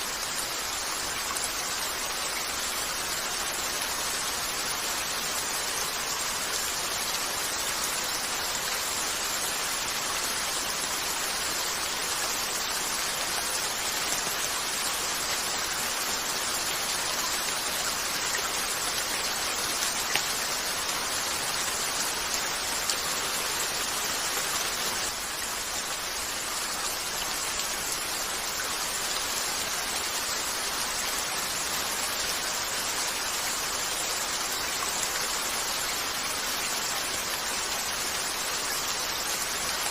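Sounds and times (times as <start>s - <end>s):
rain pattering on a window: 0.1s - 39.9s.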